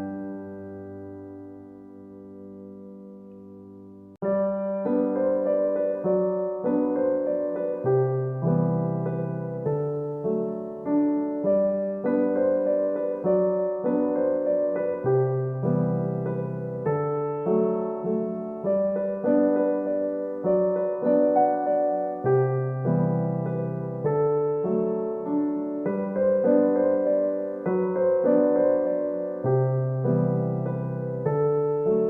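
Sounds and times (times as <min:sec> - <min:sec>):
solo piano music: 0:00.0 - 0:32.0.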